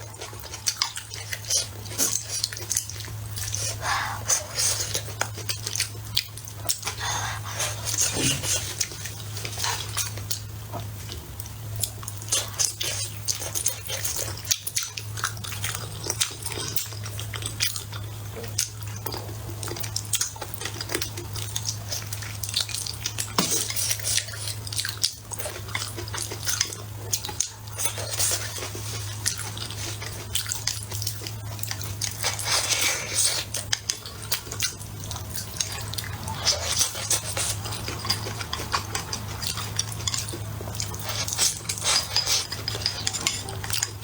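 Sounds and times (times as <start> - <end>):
chewing ribs: 0.0 - 44.0.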